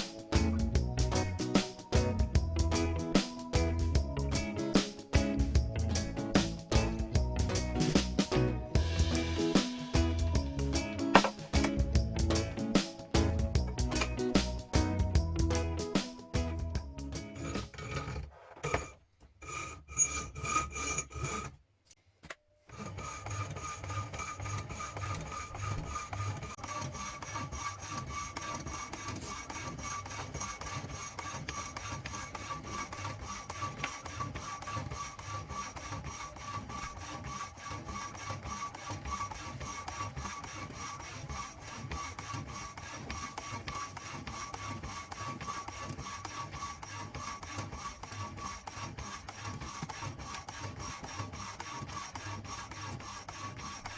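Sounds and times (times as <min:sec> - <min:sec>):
hacksaw blade rasping: 0:00.0 - 0:16.3, 0:17.2 - 0:21.6, 0:22.7 - 0:53.9.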